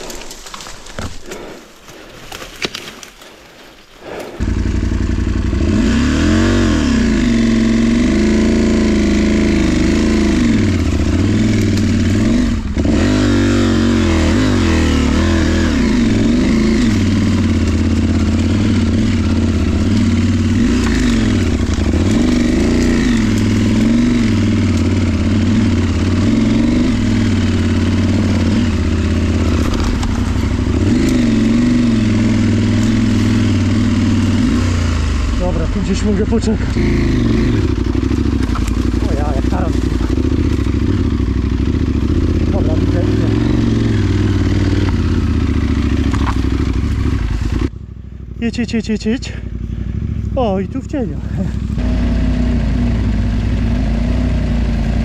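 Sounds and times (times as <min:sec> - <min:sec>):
motorcycle engine revving: 0:04.0 - 0:55.0.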